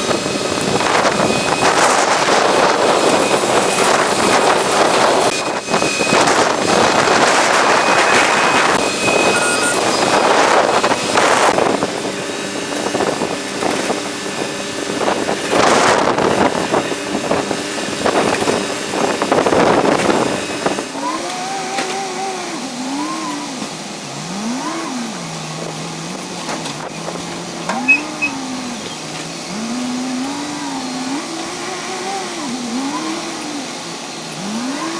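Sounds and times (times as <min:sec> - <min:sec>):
engine revving: 0:00.0 - 0:34.9
excavators working: 0:00.0 - 0:34.9.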